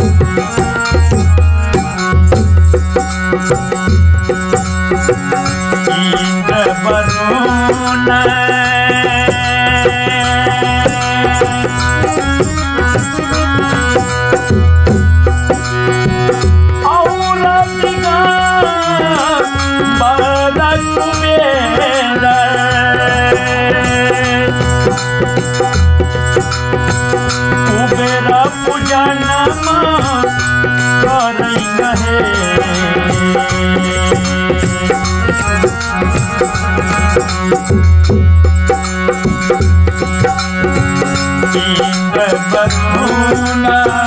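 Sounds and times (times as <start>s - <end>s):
dholak drum beat: 0.0s - 44.0s
harmonium chords: 0.0s - 44.0s
man singing: 4.9s - 25.8s, 26.4s - 37.7s, 40.2s - 44.0s.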